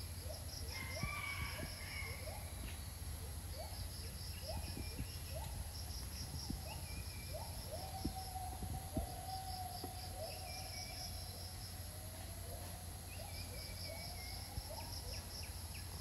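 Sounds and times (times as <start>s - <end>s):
high insect drone: 0.0s - 16.0s
pulsing insect trills: 0.0s - 16.0s.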